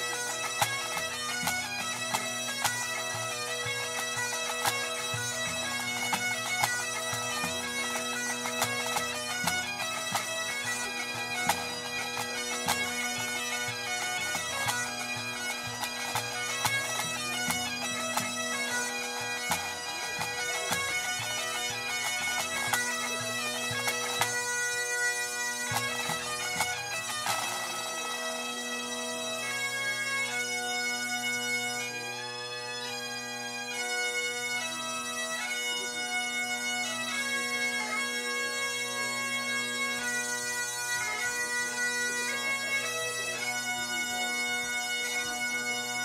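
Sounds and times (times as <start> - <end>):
bagpipes over a drone: 0.0 - 46.0.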